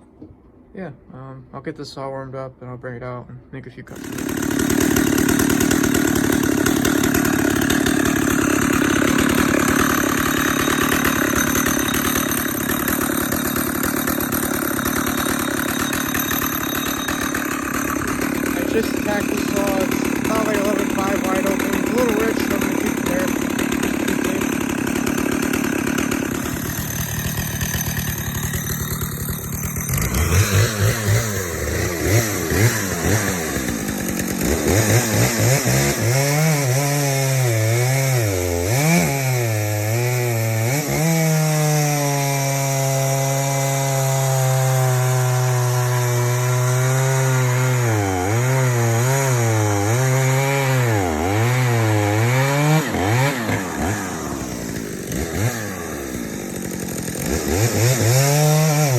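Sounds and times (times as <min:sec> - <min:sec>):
chainsaw cutting a log: 0:03.9 - 0:58.9.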